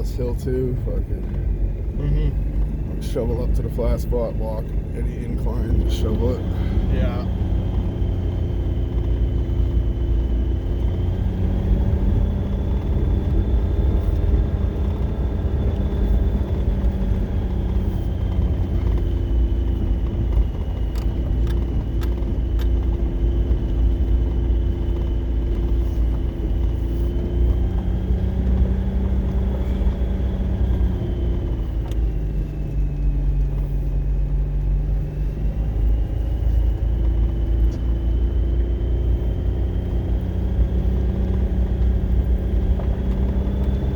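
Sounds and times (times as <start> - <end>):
vehicle engine and road rumble: 0.0 - 43.9.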